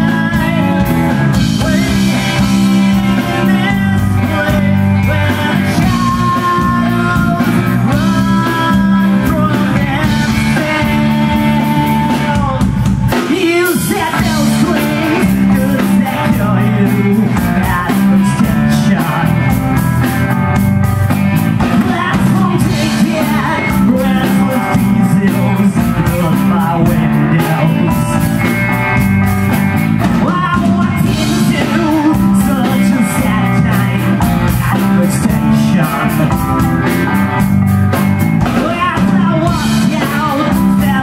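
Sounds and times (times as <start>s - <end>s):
man singing: 0.0s - 20.4s, 21.6s - 29.2s, 30.0s - 37.5s, 38.4s - 41.0s
bass guitar: 0.0s - 41.0s
drums: 0.0s - 41.0s
electric guitar: 0.0s - 41.0s
keyboard: 0.0s - 41.0s.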